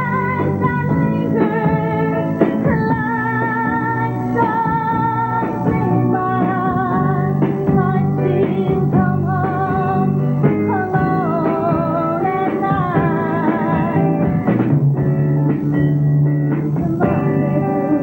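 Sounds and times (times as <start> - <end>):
woman singing: 0.0 - 14.5, 16.6 - 18.0
guitar-led rock band: 0.0 - 18.0.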